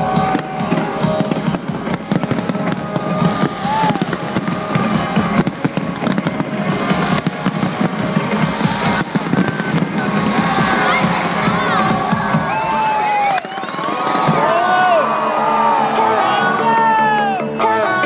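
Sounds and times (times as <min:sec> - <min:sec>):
fireworks bangs and crackles: 0:00.0 - 0:14.9
music playing: 0:00.0 - 0:18.0.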